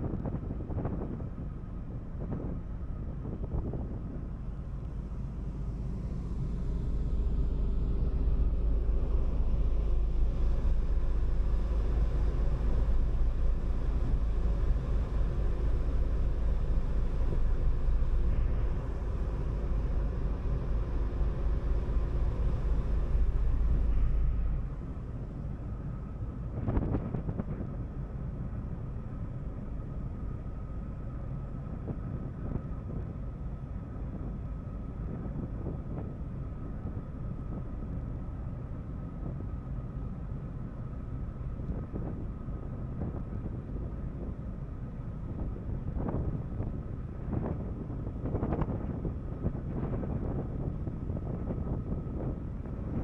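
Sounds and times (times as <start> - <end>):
faint steady tone: 0.0 - 53.0
ship engines droning: 0.0 - 53.0
wind buffeting microphone: 0.0 - 53.0.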